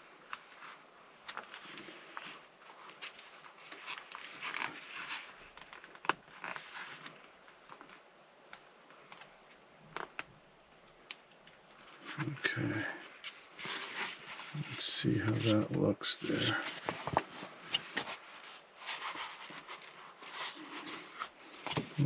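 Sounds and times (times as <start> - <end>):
rubber rustling and rubbing: 0.0 - 10.4, 11.6 - 22.0.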